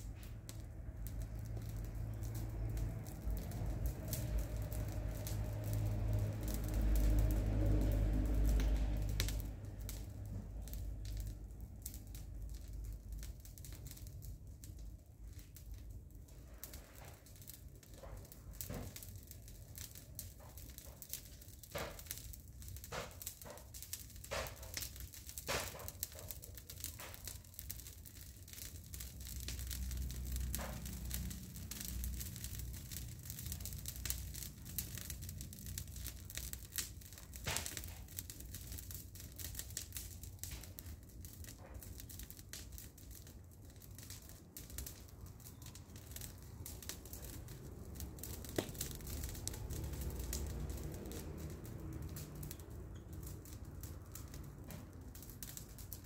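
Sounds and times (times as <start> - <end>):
crackling and clicking: 0.2 - 56.0.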